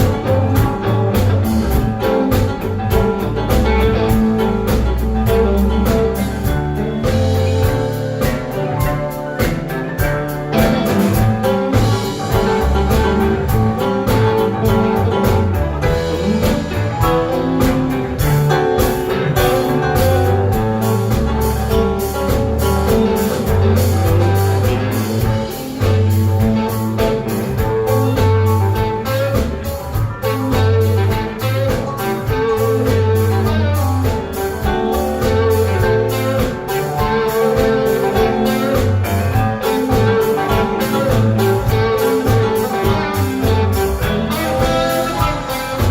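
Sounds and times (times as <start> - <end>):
bass: 0.0 - 45.9
drum kit steady beat: 0.0 - 45.9
guitar: 0.0 - 45.9.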